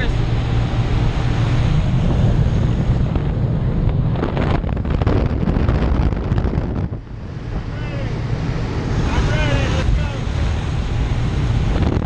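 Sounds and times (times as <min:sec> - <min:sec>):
plane engine drone: 0:00.0 - 0:12.0
wind buffeting microphone: 0:00.0 - 0:12.0.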